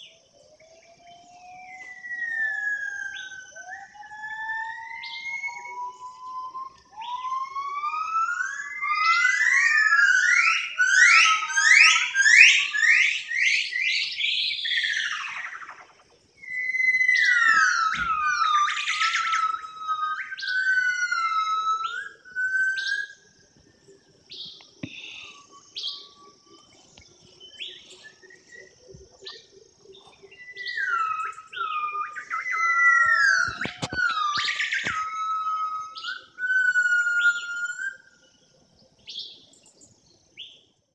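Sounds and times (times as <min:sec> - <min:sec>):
bird singing whistled phrases: 0:00.0 - 0:23.4, 0:24.3 - 0:38.3
bird calls: 0:00.0 - 0:40.6.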